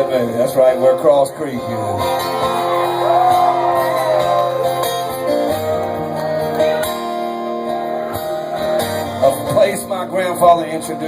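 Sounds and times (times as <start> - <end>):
band playing held guitar chords: 0.0 - 11.0.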